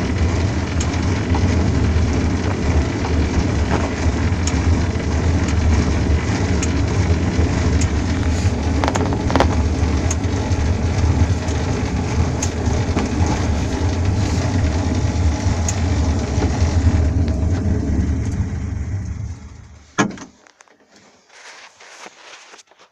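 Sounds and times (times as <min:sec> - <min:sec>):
pedal clicking: 0:00.0 - 0:20.8
low rumble of vehicle: 0:00.0 - 0:22.3.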